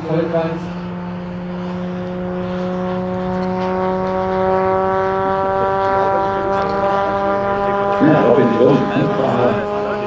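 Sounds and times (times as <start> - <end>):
model aircraft propeller drone: 0.0 - 10.0.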